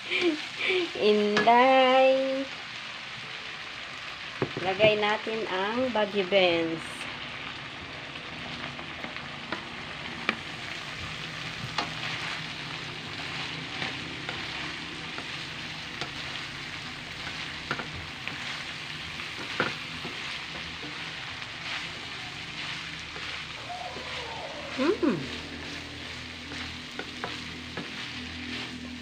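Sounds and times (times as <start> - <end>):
food sizzling in a wok: 0.0 - 29.0.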